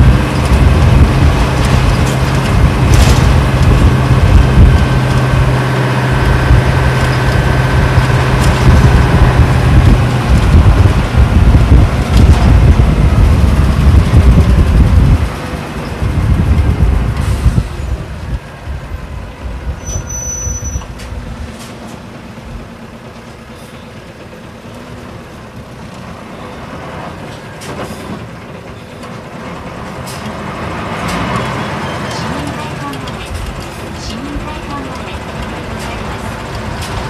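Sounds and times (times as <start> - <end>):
diesel bus engine: 0.0 - 37.0.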